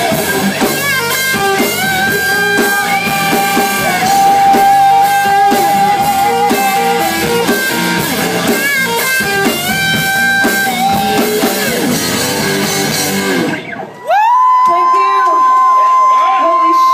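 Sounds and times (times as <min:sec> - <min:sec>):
electric guitar picking: 0:00.0 - 0:14.0
drums: 0:00.0 - 0:16.9.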